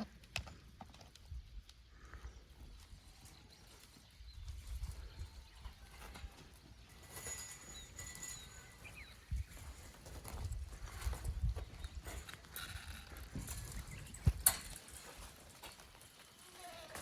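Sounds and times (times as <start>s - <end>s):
hooves clopping on ground: 0.0s - 17.0s
goats shuffling and bumping: 0.1s - 17.0s.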